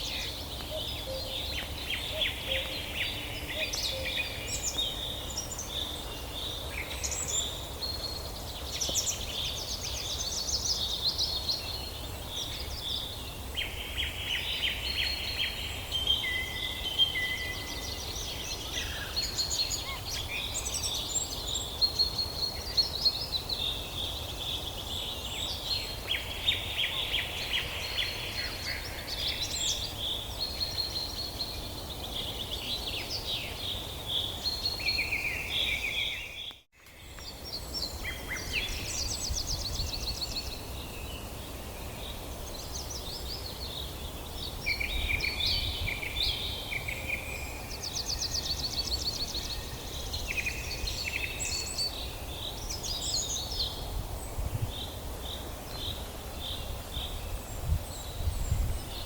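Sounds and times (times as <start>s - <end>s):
birds singing and calling: 0.0s - 59.0s.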